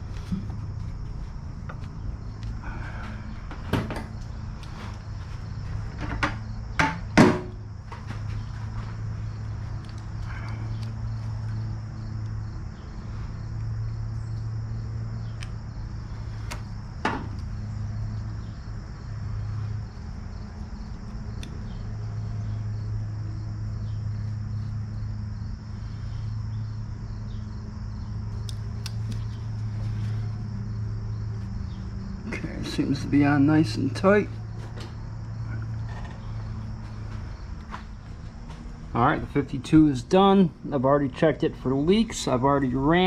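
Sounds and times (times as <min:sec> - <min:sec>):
insects chirring: 0:00.0 - 0:43.0
steady low hum: 0:00.0 - 0:43.0.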